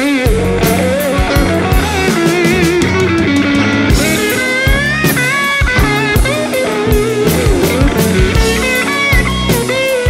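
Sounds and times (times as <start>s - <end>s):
drum kit: 0.0s - 10.0s
electric guitar with bending notes: 0.0s - 10.0s.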